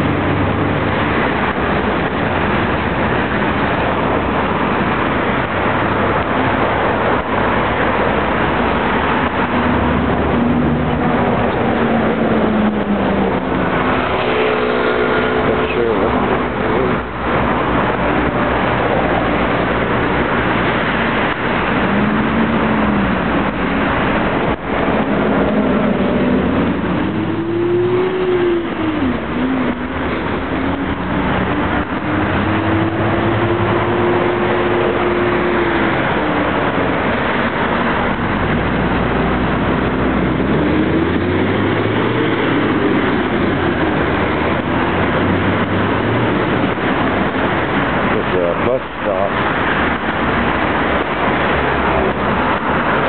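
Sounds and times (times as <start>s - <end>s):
passing vehicle engines: 0.0s - 53.0s
steady road noise: 0.0s - 53.0s.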